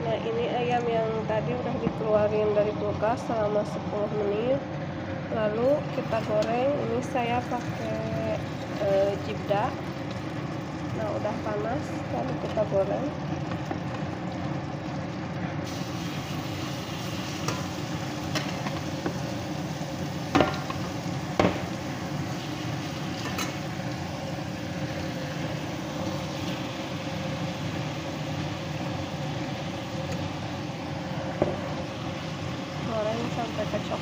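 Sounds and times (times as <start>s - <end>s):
chicken sizzling in a pan: 5.9s - 34.0s.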